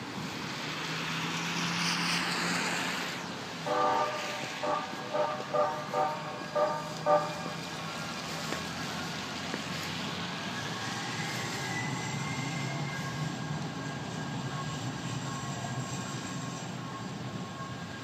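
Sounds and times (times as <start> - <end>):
light-rail train rolling: 3.3 - 18.0.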